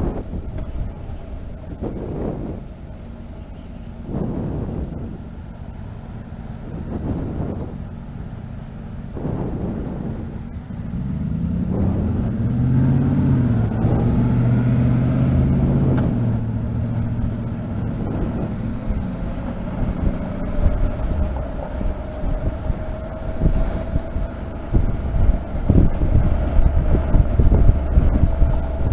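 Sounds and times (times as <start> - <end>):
motorcycle engine pulling away: 0.0 - 28.9
wind rumbling on microphone: 0.0 - 28.9.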